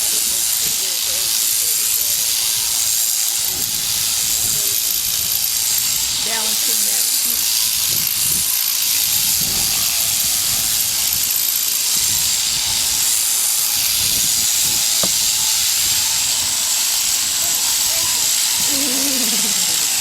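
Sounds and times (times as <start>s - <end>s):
electric shearing clippers running: 0.0s - 20.0s.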